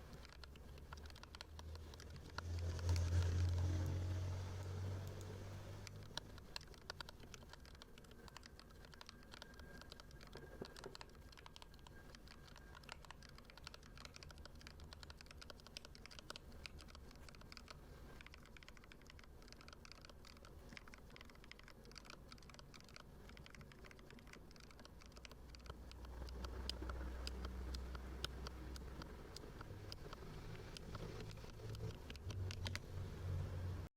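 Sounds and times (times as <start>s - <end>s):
soft mechanical keyboard typing: 0.0s - 33.9s.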